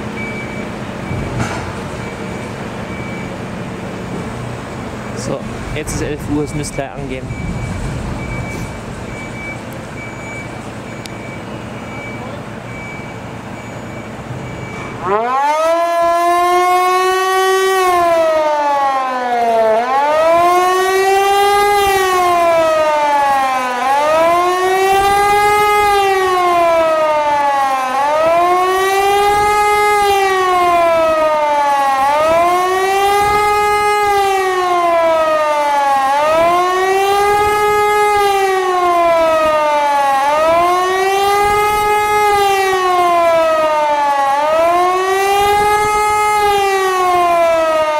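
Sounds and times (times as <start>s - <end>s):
civil defence siren wailing: 0.0s - 47.9s.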